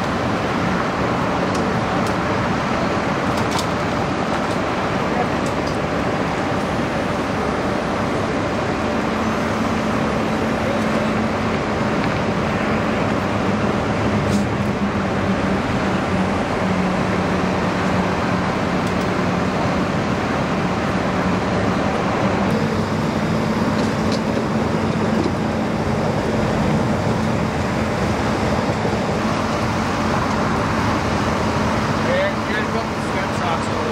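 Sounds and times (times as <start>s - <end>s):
freeway traffic noise: 0.0s - 33.9s
idling vehicle engine hum: 0.0s - 33.9s.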